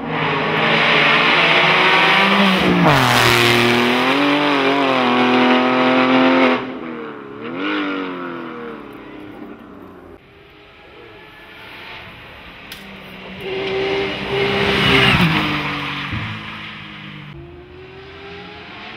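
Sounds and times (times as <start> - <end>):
race car engine at full throttle: 0.0 - 18.9.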